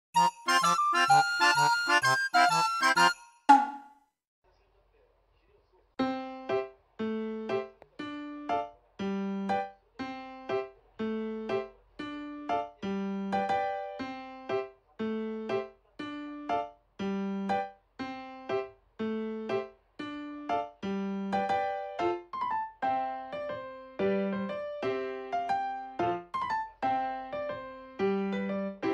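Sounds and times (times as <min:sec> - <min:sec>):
keyboard playing bouncy tune: 0:00.2 - 0:03.8, 0:06.0 - 0:28.9.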